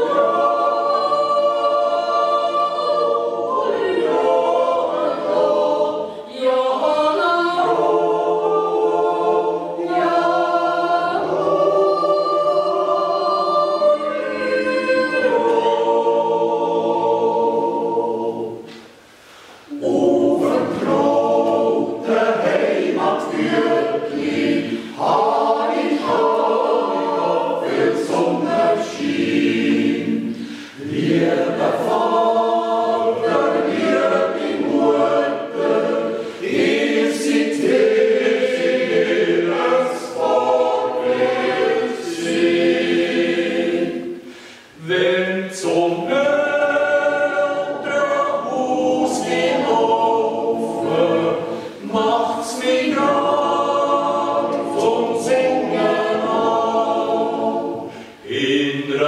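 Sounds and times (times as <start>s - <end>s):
choir yodeling a cappella: 0.0s - 59.0s.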